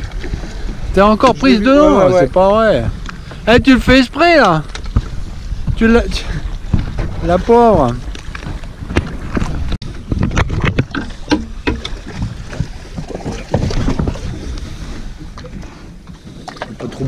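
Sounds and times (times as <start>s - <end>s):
water slapping boat hull: 0.0s - 17.0s
wind on microphone: 0.0s - 17.0s.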